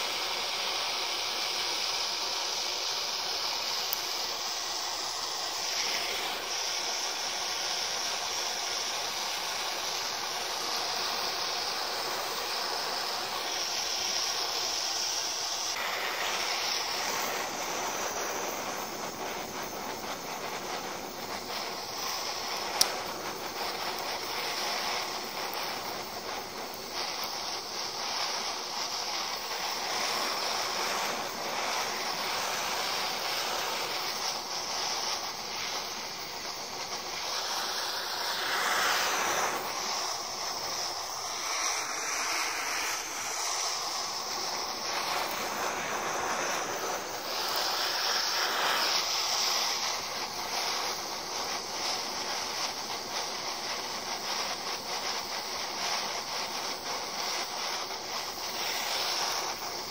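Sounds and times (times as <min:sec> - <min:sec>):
gas torch flame hissing: 0:00.0 - 0:59.9.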